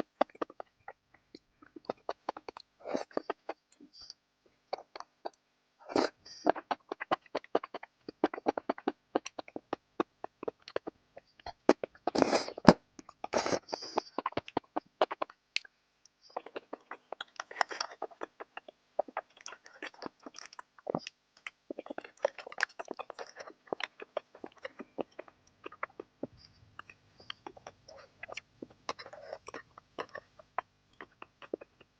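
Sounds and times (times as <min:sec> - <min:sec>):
chewing sticky food: 0:00.0 - 0:31.9.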